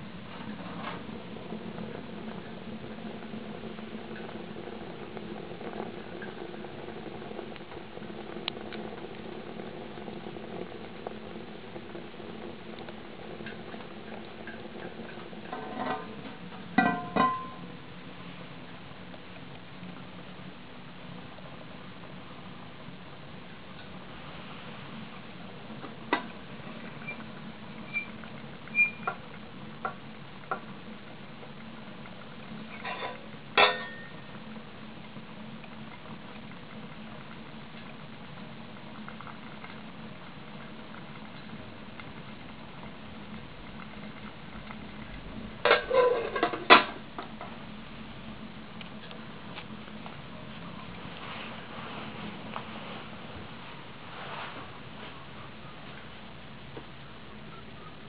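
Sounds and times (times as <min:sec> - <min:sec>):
fire crackles and pops: 0:00.0 - 0:16.8, 0:17.6 - 0:57.5
wood fire rushing burn: 0:00.0 - 0:16.8, 0:17.6 - 0:58.0
steady low hum: 0:00.0 - 0:58.0.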